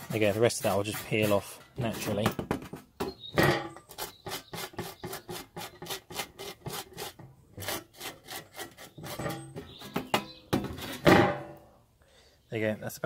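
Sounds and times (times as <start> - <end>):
thumb scraping metal sheet: 0.0 - 11.6.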